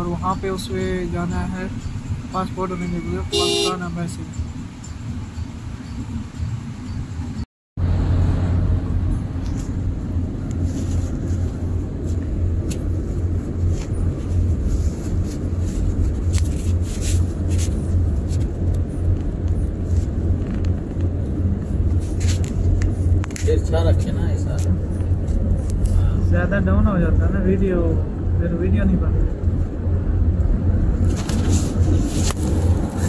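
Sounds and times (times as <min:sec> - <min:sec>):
car driving rumble inside cabin: 0:00.0 - 0:33.0.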